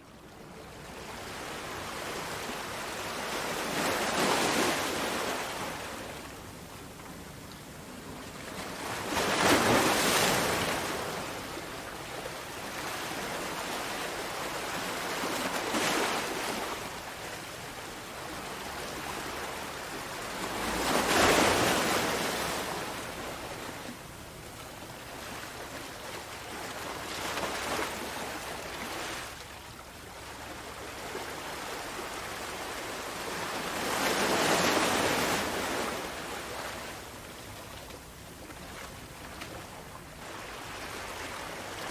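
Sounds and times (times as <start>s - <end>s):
sea waves breaking on shore: 0.6s - 6.6s, 7.8s - 41.9s.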